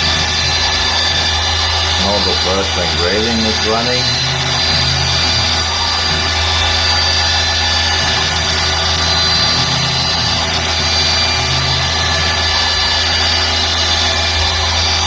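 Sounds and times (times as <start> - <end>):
high whine: 0.0 - 15.0
mill spindle hum: 0.0 - 15.0.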